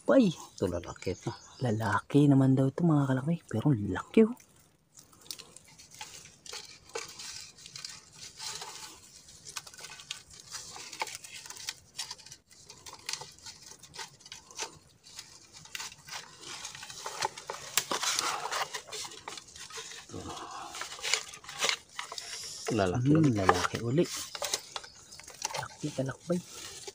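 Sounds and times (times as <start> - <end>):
scraping and rustling of bamboo: 0.1 - 26.9.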